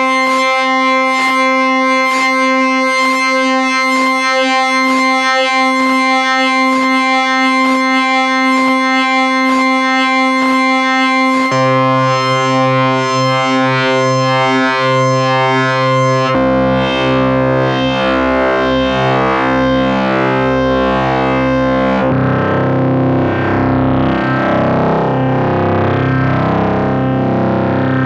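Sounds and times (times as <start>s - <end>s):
sustained synthesizer note: 0.0s - 28.0s.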